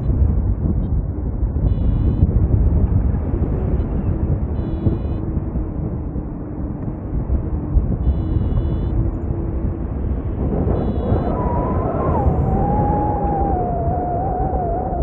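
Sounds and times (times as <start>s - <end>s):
airflow rushing over microphone: 0.0s - 15.0s.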